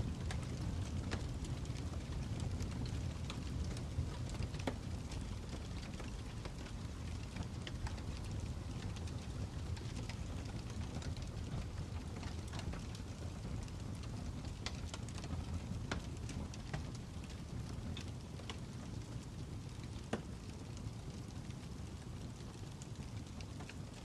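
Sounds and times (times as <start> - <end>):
low fire rumble: 0.0 - 24.0
wood fire pops and snaps: 0.0 - 24.0.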